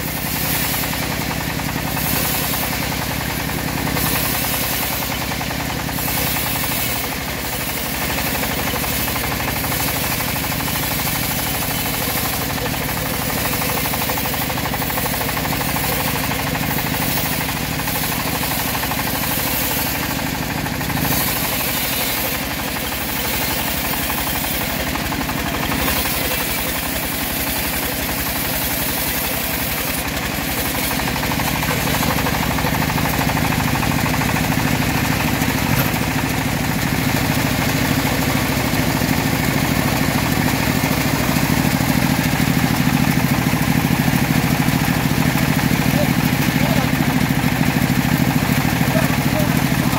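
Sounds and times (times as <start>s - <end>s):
band sawmill cutting log: 0.0s - 49.9s.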